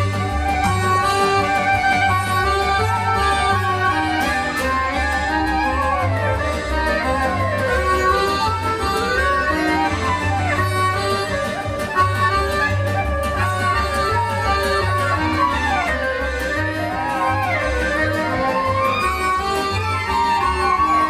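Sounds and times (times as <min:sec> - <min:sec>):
accordion: 0:00.0 - 0:21.0
clarinet: 0:00.0 - 0:21.0
double bass: 0:00.0 - 0:21.0
guitar: 0:00.0 - 0:21.0
violin: 0:00.0 - 0:21.0.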